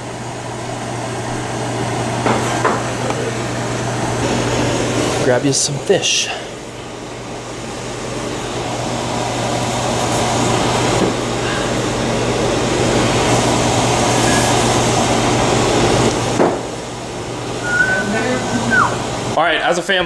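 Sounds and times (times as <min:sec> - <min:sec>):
fan-like rushing with hum: 0:00.0 - 0:19.9.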